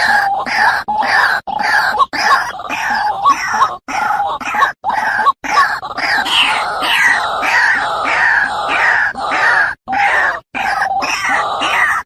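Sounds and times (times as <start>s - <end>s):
waterhen calling harshly: 0.0s - 12.0s.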